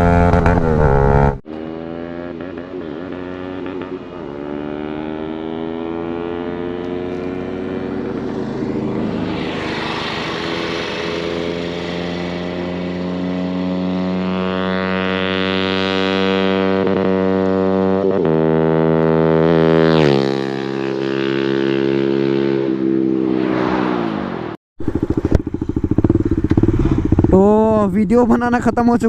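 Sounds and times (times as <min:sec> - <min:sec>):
motorcycle engine running: 0:00.0 - 0:23.2, 0:24.8 - 0:29.0.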